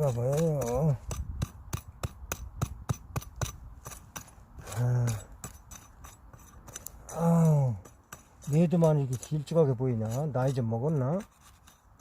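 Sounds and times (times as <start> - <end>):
digging tool striking soil and roots: 0.0 - 12.0.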